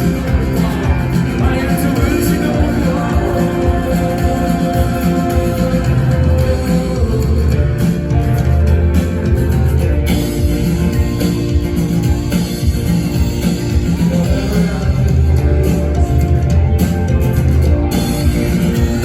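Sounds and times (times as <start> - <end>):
electric guitar: 0.0 - 19.0
rock band playing live: 0.0 - 19.0.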